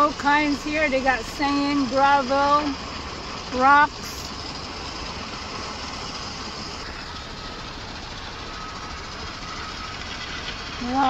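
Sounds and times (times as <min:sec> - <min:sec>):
engine and machinery noise: 0:00.0 - 0:11.0
faint high whine: 0:00.0 - 0:11.0.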